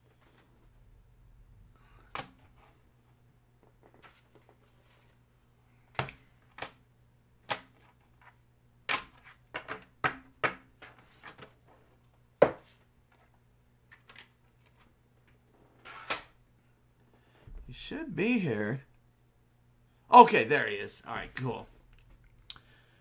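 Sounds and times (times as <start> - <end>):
faint low hum: 0.0 - 10.0, 10.9 - 23.0.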